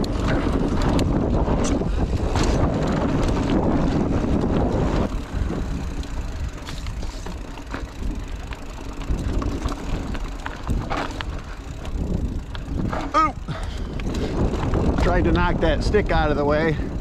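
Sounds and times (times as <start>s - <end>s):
bike rattling and clicking: 0.0s - 17.0s
bike tyres on dirt trail: 0.0s - 17.0s
wind buffeting microphone: 0.0s - 17.0s.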